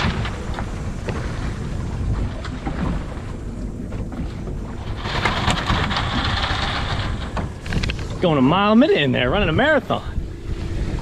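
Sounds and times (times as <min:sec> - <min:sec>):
sea water rushing around boat: 0:00.0 - 0:11.0
wind buffeting microphone: 0:00.0 - 0:11.0.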